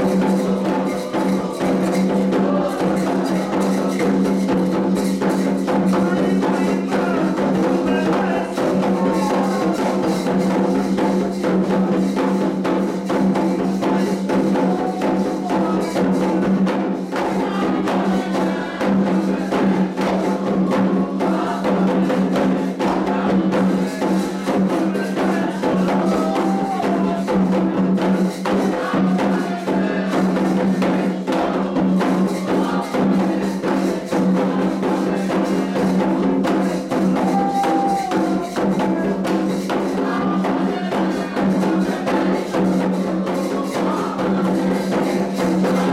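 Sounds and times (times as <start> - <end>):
hand drums rhythm: 0.0 - 45.9.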